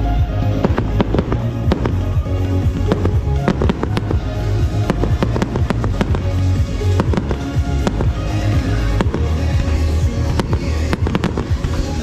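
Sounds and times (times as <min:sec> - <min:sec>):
fireworks cracking and crackling: 0:00.0 - 0:12.0
music with bass line: 0:00.0 - 0:12.0.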